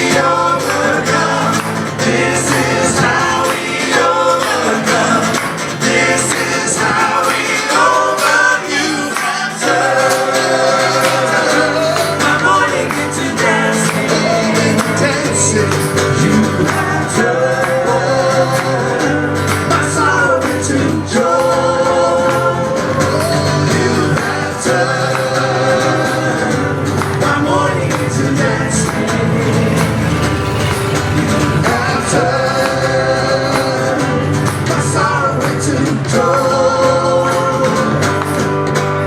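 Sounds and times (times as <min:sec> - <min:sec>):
steady bass accompaniment: 0:00.0 - 0:39.0
voices singing held notes: 0:00.0 - 0:39.0.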